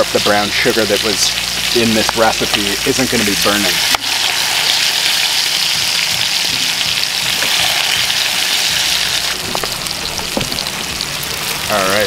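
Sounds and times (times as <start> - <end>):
bacon sizzling in a skillet: 0.0 - 12.0.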